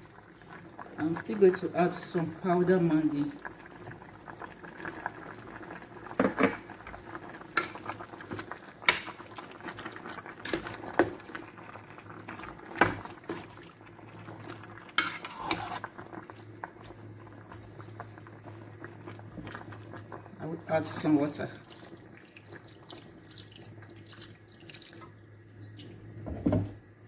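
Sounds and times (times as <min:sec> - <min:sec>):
pot bubbling: 0:00.0 - 0:27.0.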